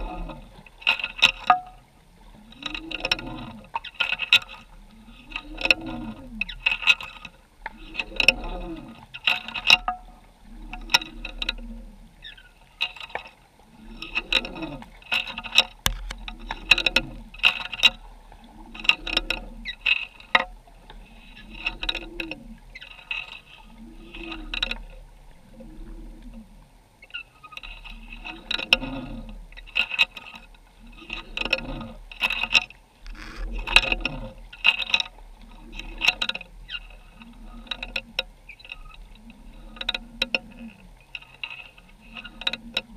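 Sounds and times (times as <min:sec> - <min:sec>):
underwater pulsing with clicks: 0:00.0 - 0:42.9.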